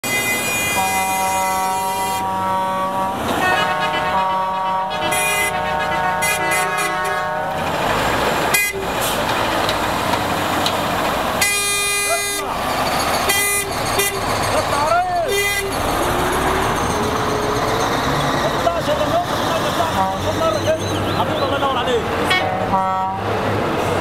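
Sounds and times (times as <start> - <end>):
truck air horns blaring: 0.0 - 9.3, 11.3 - 20.8, 22.2 - 23.4
diesel engine running: 0.0 - 24.0.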